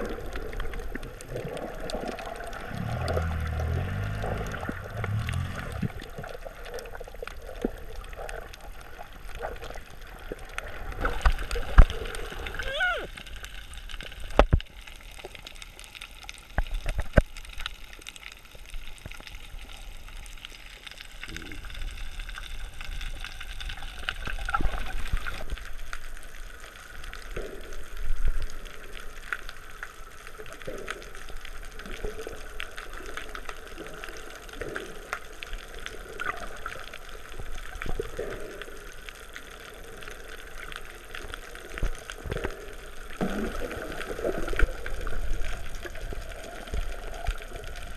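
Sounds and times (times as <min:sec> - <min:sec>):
muffled underwater water wash: 0:00.0 - 0:47.9
underwater gurgles: 0:00.0 - 0:47.9.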